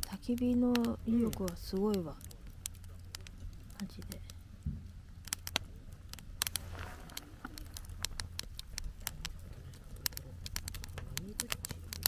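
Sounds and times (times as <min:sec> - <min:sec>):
campfire crackling: 0:00.0 - 0:12.0
low steady rumble: 0:00.0 - 0:12.0.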